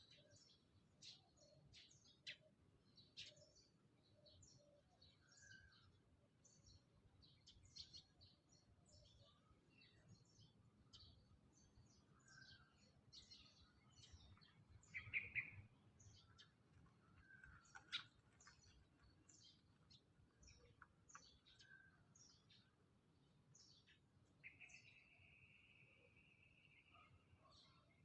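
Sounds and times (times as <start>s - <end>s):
birds chirping: 4.3s - 28.0s.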